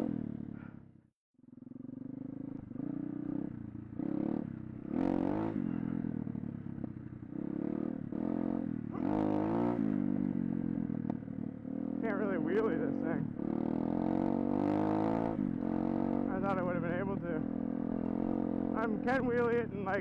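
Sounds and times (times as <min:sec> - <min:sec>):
small motorbike engine revving: 0:01.5 - 0:20.0.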